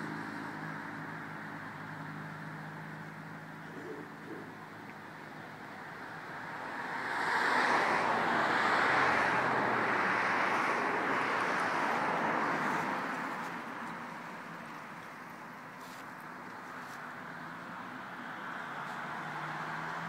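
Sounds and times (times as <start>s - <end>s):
vehicle passing by: 0.0s - 15.1s, 15.8s - 20.0s.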